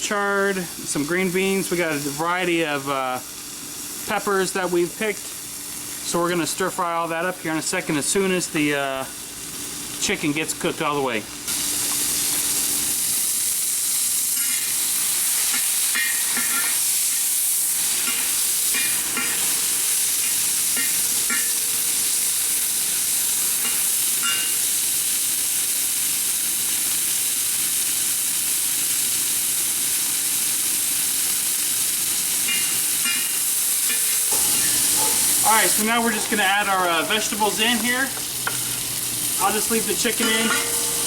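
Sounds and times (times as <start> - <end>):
chicken sizzling in a wok: 0.0 - 41.0.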